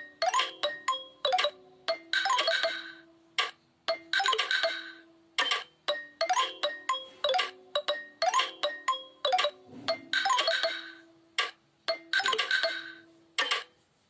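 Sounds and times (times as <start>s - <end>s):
ringtone melody of struck notes: 0.0s - 13.8s.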